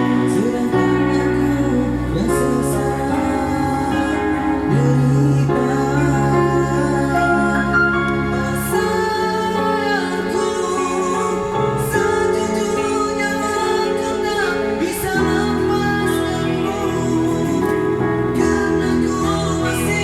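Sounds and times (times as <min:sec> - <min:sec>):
band playing pop ballad: 0:00.0 - 0:20.0
person singing: 0:00.0 - 0:20.0.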